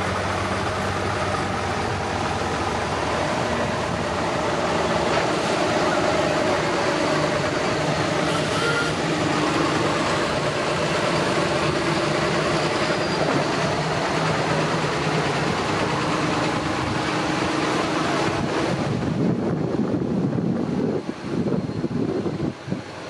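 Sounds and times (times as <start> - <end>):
tractors driving past: 0.0 - 19.3.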